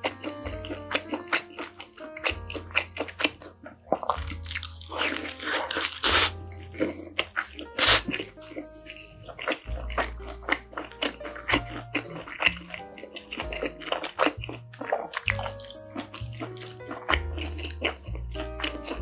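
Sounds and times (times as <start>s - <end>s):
background music with bass: 0.0s - 19.0s
wet smacking chewing: 0.0s - 19.0s.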